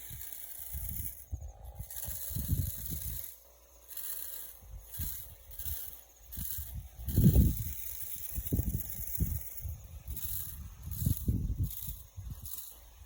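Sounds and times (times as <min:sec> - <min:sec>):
wind buffeting microphone: 0:00.0 - 0:03.3, 0:04.6 - 0:13.0.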